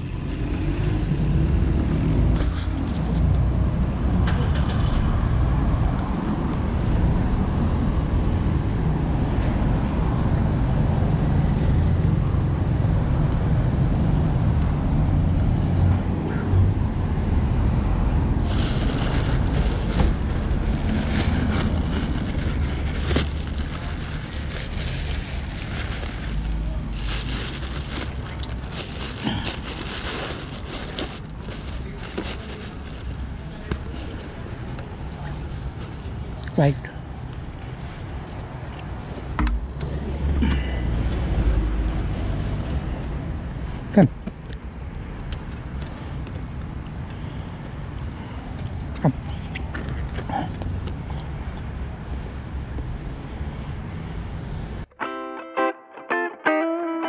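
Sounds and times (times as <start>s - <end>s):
low rumble of traffic: 0.0s - 54.9s.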